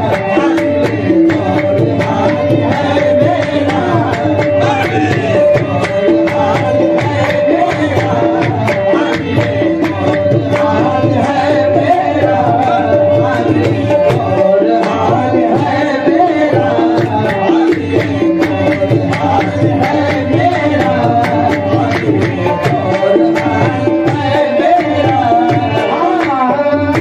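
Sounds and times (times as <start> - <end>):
harmonium melody with drone: 0.0 - 27.0
tabla rhythm: 0.0 - 27.0.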